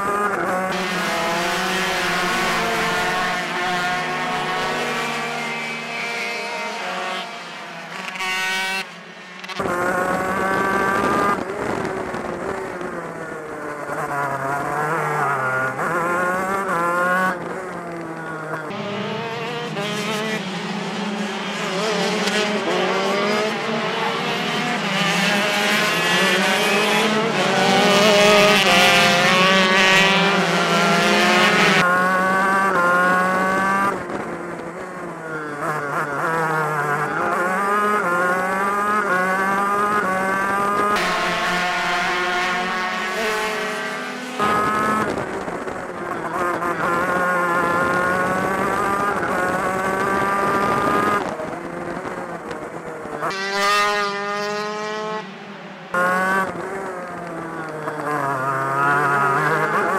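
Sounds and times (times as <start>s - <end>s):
kart engine revving: 0.0s - 59.9s.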